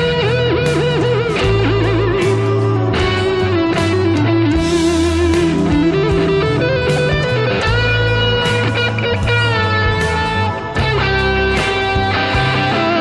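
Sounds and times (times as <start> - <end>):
bass line: 0.0 - 13.0
electric guitar music: 0.0 - 13.0.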